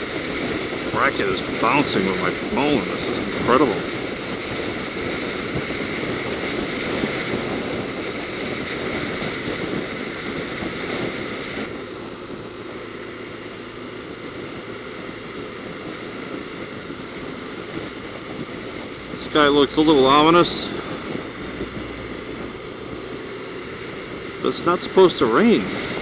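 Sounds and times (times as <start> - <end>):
motorcycle engine and road noise: 0.0 - 26.0
wind rush over microphone: 0.0 - 26.0.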